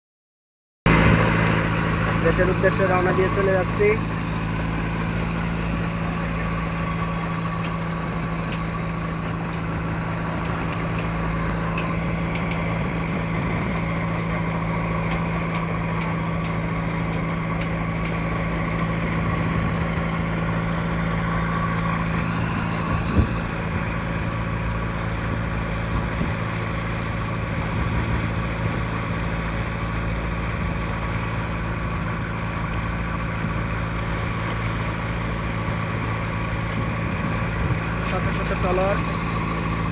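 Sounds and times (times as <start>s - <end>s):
boat engine humming: 0.9s - 39.9s.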